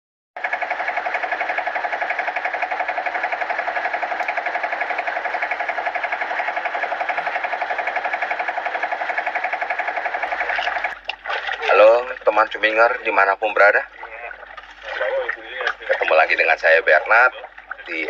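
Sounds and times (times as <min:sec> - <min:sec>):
boat engine chugging: 0:00.4 - 0:18.0.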